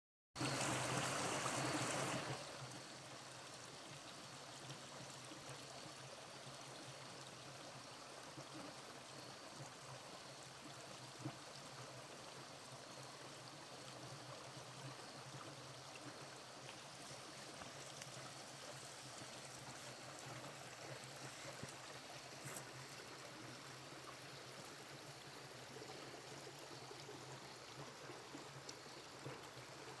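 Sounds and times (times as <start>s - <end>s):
creek trickling over stones: 0.4s - 30.0s.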